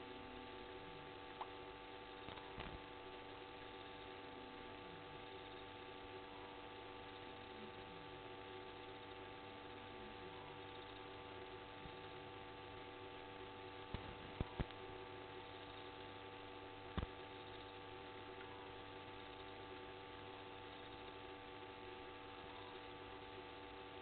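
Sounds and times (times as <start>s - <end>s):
electrical hum with hiss: 0.0s - 24.0s.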